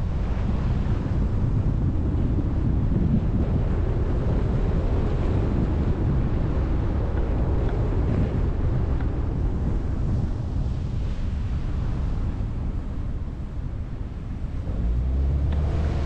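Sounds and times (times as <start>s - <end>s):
tyres rumbling on road: 0.0s - 10.7s, 12.0s - 16.0s
wind buffeting microphone: 0.0s - 16.0s.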